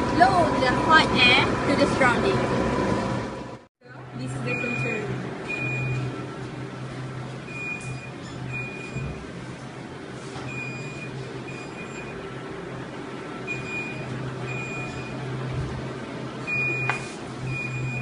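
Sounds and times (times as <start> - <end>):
air-conditioning machinery hum: 0.0 - 18.0.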